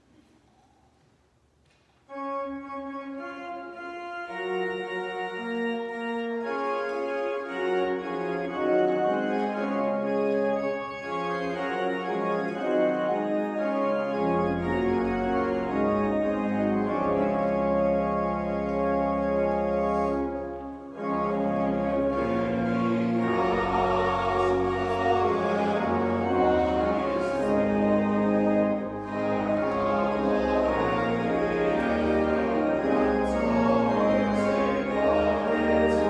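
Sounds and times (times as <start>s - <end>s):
church organ playing chords: 2.1s - 36.0s.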